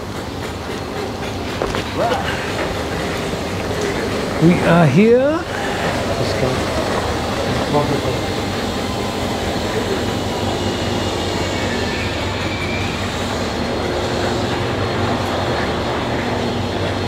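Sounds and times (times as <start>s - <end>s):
stationary train humming: 0.0s - 17.0s.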